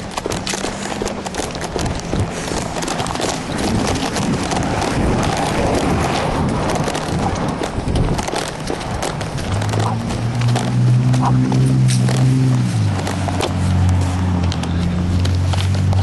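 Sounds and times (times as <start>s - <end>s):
sharp clicks and bumps: 0.0s - 16.0s.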